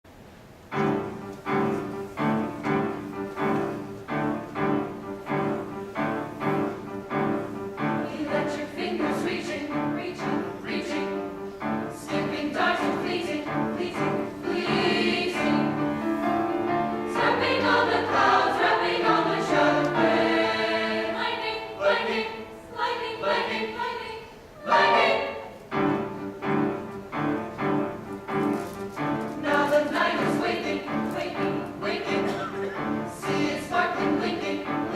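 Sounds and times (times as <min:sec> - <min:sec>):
choir singing: 0:00.7 - 0:34.9.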